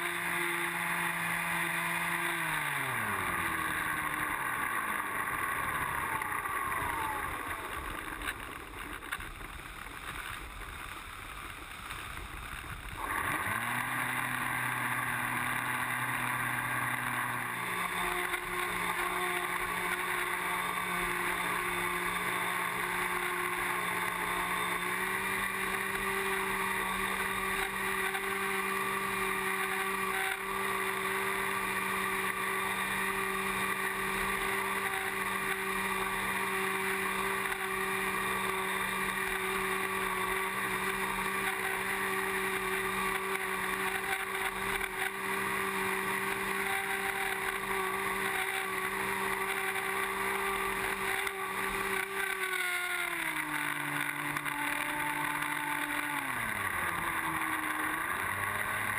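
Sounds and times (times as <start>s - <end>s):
electric motor propeller whine: 0.0s - 58.9s.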